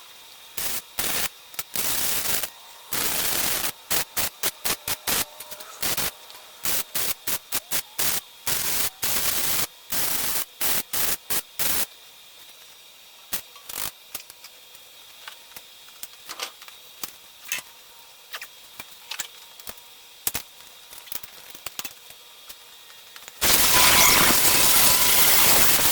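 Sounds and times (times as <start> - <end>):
welder crackling hiss: 0.0 - 19.0, 19.6 - 25.9.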